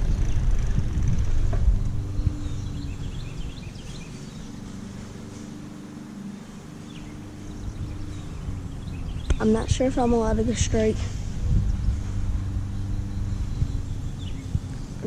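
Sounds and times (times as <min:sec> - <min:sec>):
low rumble: 0:00.0 - 0:05.5, 0:06.4 - 0:15.0
steady hum: 0:00.0 - 0:15.0.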